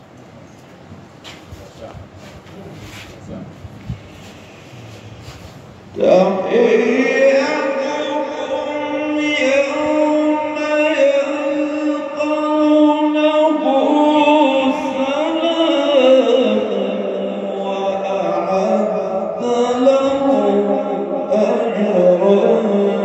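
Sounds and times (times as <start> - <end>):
person chanting a slow melody: 4.3 - 23.0.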